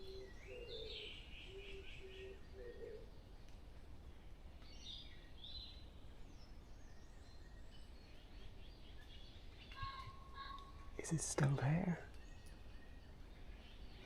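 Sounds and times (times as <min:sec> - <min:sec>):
faint distant birdsong: 0:00.0 - 0:14.0.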